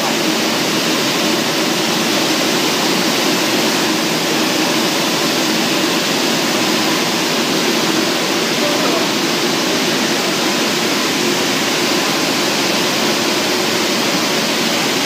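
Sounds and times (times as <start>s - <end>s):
churning water and air: 0.0s - 15.0s
low machine hum: 0.0s - 15.0s.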